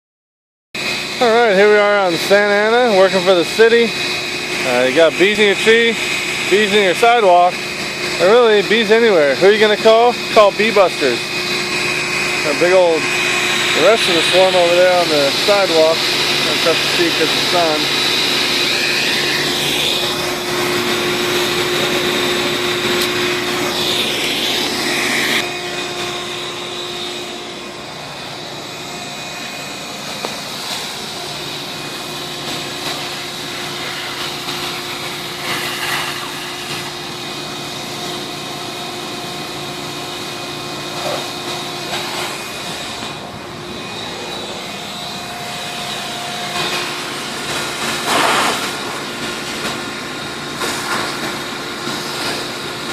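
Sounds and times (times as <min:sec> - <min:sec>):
small motor whining hum: 0:00.8 - 0:52.9.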